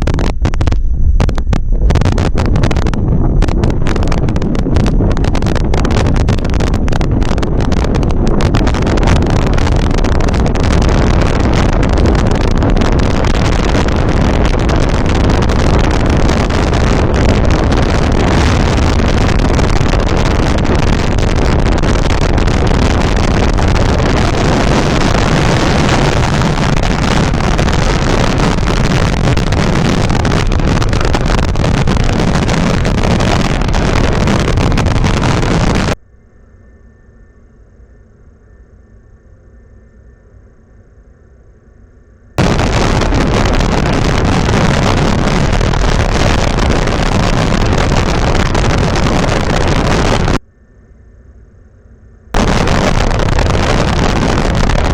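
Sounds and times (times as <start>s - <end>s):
strong wind on microphone: 0.0s - 36.0s, 42.4s - 50.4s, 52.3s - 54.9s.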